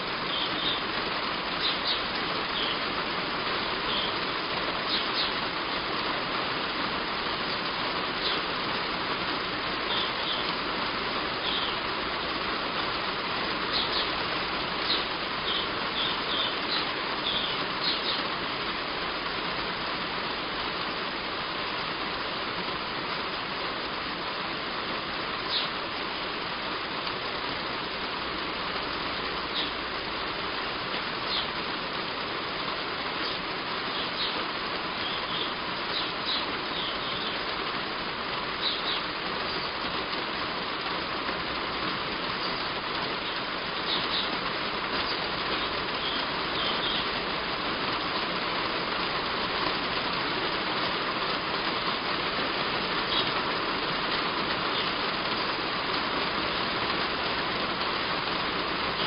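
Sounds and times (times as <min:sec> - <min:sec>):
small birds chirping: 0:00.0 - 0:20.4, 0:24.2 - 0:59.0
heavy rain on a roof: 0:00.0 - 0:59.0.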